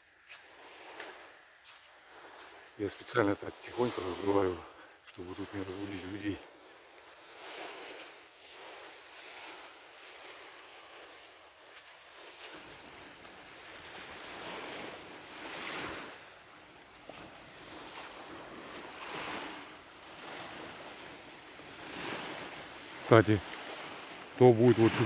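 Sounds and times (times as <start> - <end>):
small waves washing onto shore: 0.0 - 25.0.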